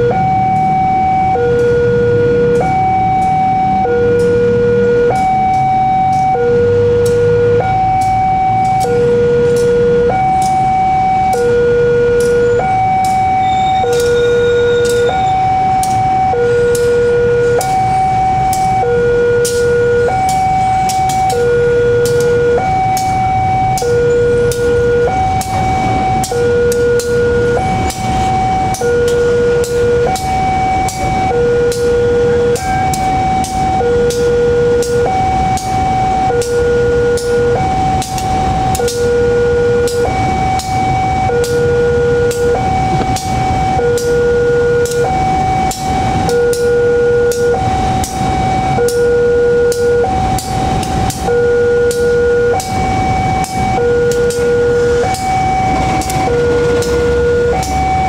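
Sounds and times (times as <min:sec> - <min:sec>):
diesel locomotive rumble: 0:00.0 - 0:58.0
two-tone crossing alarm: 0:00.0 - 0:58.0.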